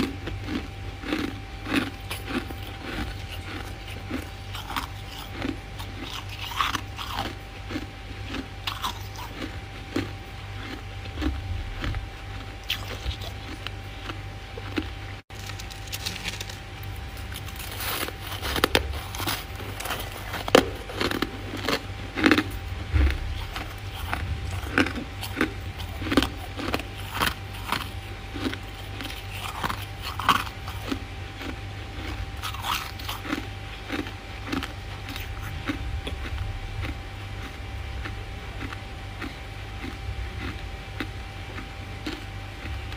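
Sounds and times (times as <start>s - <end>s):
faint steady hum: 0.0s - 42.9s
frost crunching while chewed: 0.0s - 42.9s.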